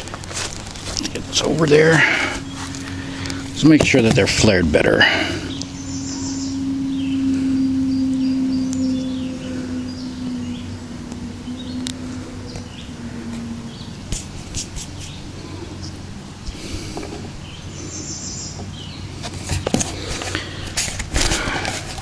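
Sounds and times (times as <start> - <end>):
steady low hum: 0.0 - 22.0
small birds chirping: 0.8 - 19.3.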